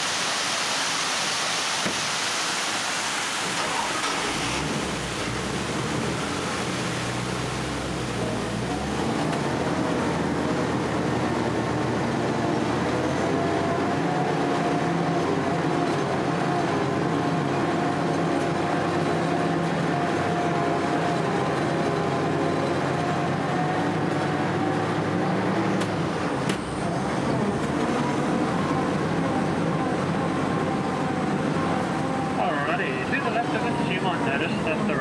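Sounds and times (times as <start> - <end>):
amphibious truck engine running: 3.5 - 35.0.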